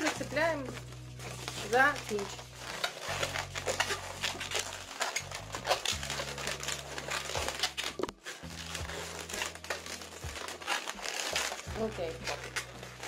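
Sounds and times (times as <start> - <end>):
background music: 0.0 - 13.0
balloons rubbing together: 0.0 - 13.0.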